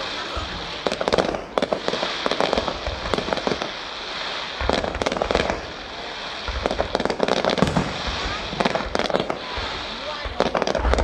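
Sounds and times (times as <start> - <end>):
fireworks crackling pops: 0.0 - 11.0
hiss of firework bursts: 0.0 - 11.0.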